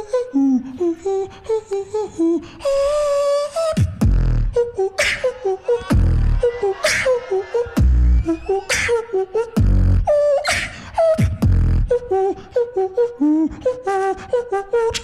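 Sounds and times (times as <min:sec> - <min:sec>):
beatboxing into microphone: 0:00.0 - 0:15.0.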